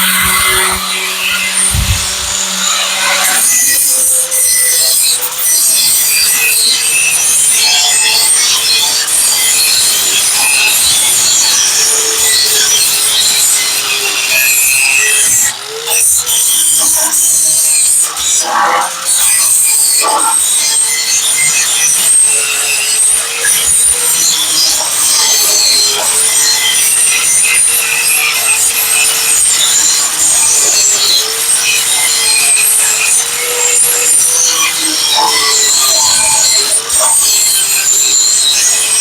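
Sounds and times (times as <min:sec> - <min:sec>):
angle grinder grinding steel: 0:00.0 - 0:39.0.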